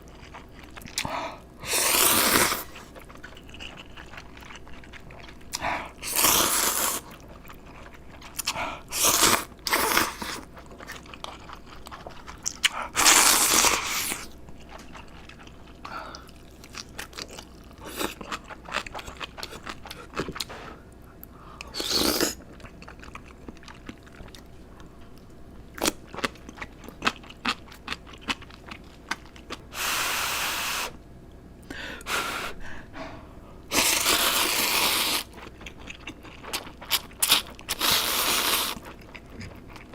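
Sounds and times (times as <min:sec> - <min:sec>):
person chewing crunchy food: 0:00.0 - 0:29.7, 0:33.0 - 0:39.9.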